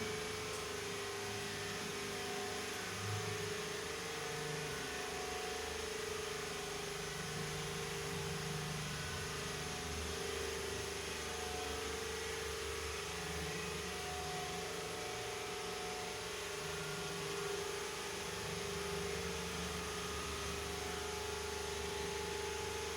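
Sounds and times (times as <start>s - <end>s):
machine motor humming with hiss: 0.0s - 22.9s.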